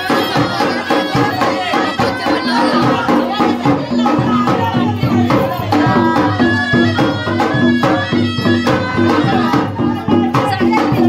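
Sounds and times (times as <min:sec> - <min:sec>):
reedy wind instrument melody: 0:00.0 - 0:10.6
steady drum beat: 0:00.0 - 0:11.0.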